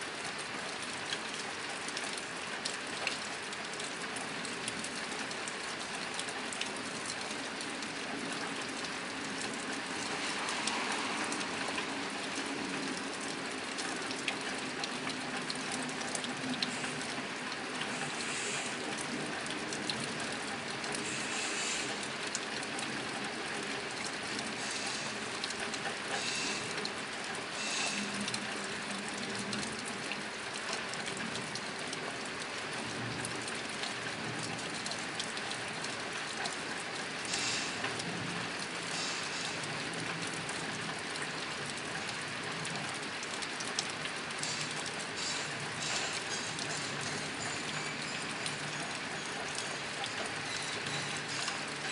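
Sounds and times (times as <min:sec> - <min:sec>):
rain on a tin roof: 0:00.0 - 0:51.9.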